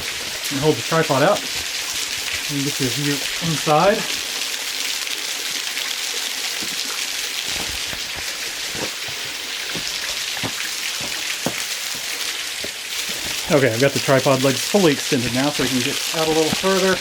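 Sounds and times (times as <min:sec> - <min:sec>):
waterfall rushing hiss: 0:00.1 - 0:04.4, 0:06.6 - 0:17.0.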